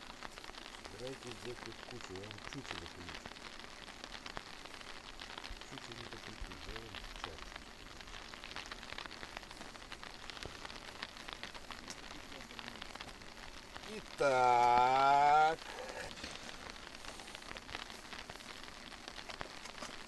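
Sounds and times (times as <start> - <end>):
light rain on tent fabric: 0.0 - 20.0.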